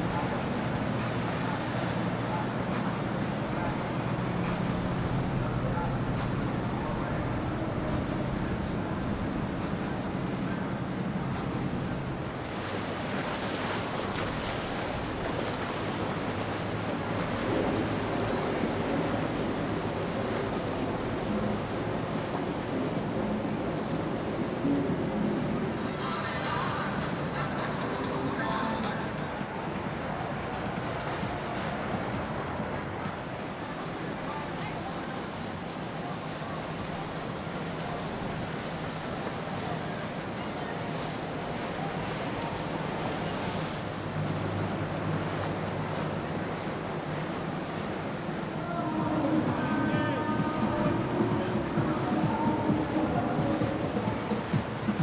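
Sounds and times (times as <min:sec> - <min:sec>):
water rushing past boat: 0:00.0 - 0:55.0
wind: 0:00.0 - 0:55.0.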